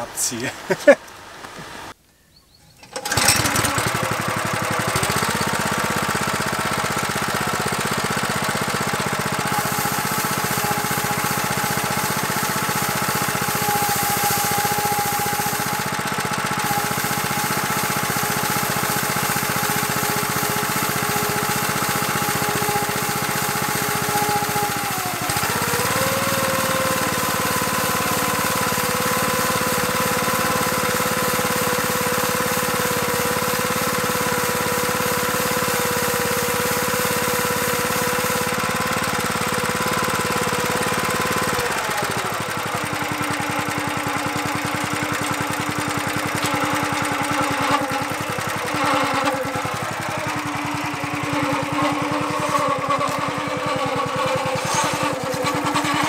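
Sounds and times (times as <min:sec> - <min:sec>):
small petrol engine running: 0:02.8 - 0:56.0.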